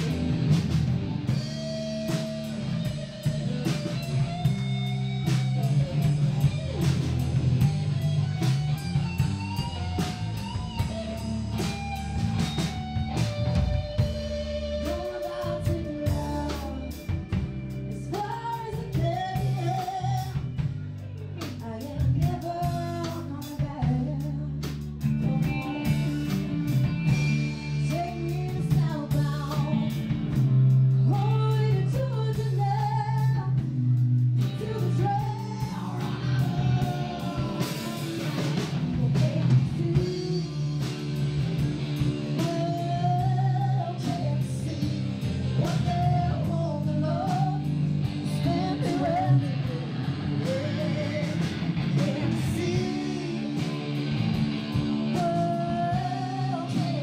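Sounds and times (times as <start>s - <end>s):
acoustic and electric guitars: 0.0s - 57.0s
drum kit: 0.0s - 57.0s
person singing: 1.3s - 41.1s, 42.2s - 57.0s.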